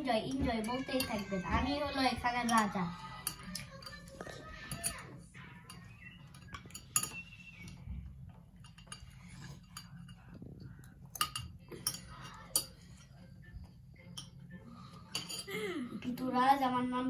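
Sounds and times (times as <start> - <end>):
metal spoons clinking on bowls: 0.0 - 13.3, 14.0 - 16.2.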